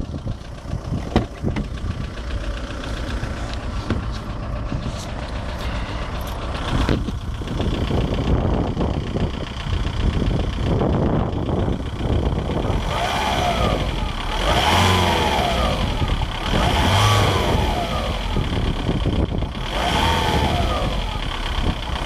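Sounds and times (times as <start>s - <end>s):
diesel engine rumble: 0.0s - 22.0s
engine knocking: 0.0s - 22.0s.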